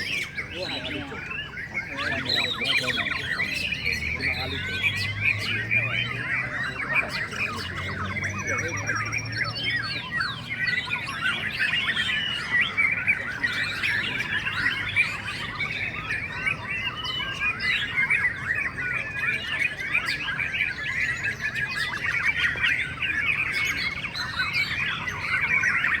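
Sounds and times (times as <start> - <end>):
songbirds chorus: 0.0 - 26.0.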